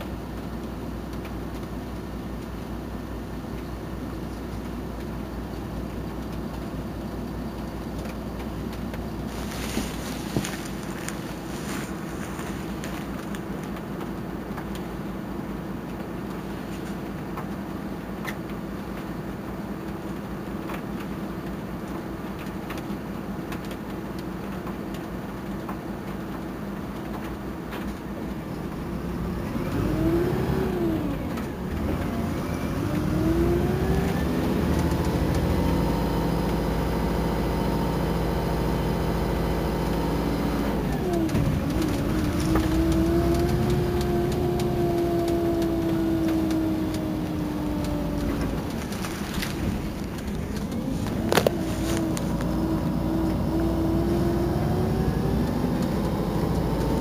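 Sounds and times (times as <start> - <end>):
bus engine accelerating: 0.0 - 21.8, 28.0 - 57.0.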